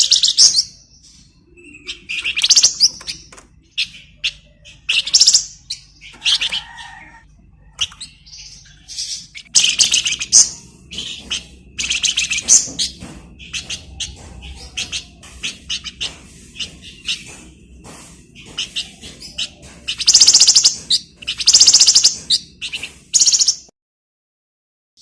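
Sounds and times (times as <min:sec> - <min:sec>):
songbird chattering trills: 0:00.0 - 0:23.7.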